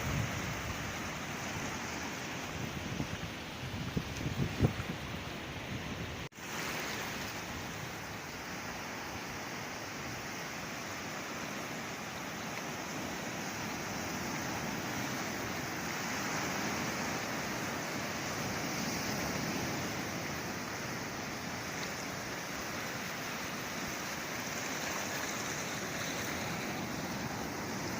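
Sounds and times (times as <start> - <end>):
sea waves washing ashore: 0.0 - 27.9.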